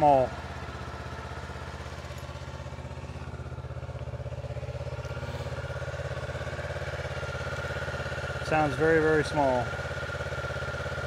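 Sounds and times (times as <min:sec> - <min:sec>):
small motorcycle engine idling: 0:00.0 - 0:11.0.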